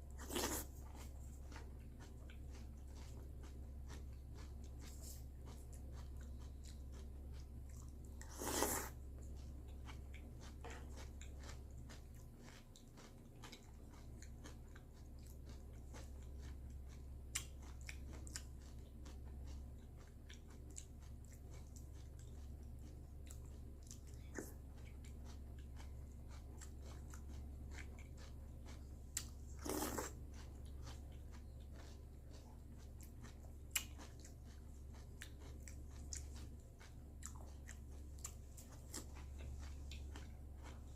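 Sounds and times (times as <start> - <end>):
person chewing crunchy cereal: 0.0 - 40.9
steady low hum: 0.0 - 40.9.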